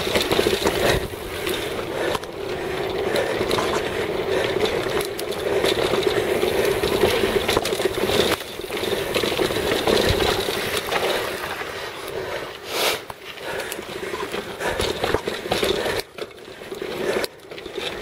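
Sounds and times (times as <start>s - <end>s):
bike rattling and knocking: 0.0s - 12.4s, 13.1s - 18.0s
bike tyres on dirt and gravel: 0.0s - 18.0s.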